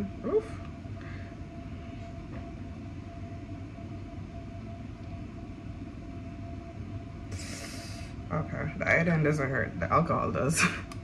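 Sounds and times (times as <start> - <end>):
faint steady whine: 0.0 - 11.0
low mechanical hum: 0.0 - 11.0.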